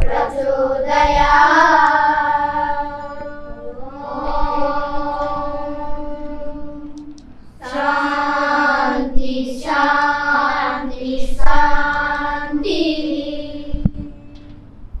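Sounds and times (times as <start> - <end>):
children chanting in unison: 0.0 - 14.0.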